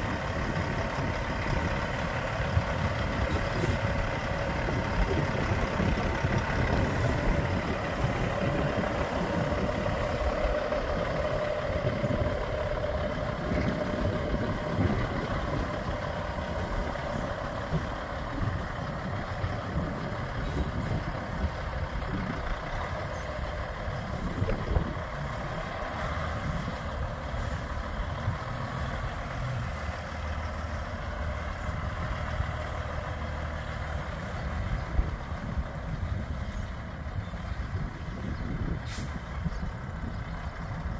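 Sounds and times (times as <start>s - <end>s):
diesel truck engine driving away: 0.0s - 40.9s.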